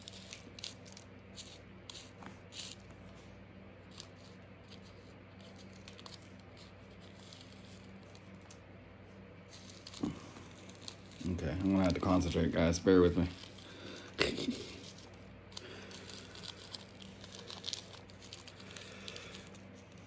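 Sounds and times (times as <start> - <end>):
rolling paper and tobacco rustling: 0.0 - 8.6, 9.4 - 20.0
low electrical hum: 0.0 - 20.0.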